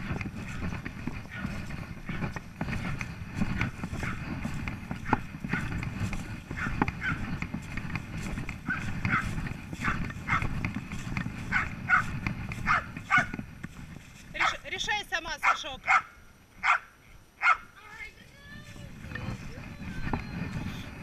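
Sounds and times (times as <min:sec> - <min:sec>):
footsteps on woodland ground: 0:00.0 - 0:21.0.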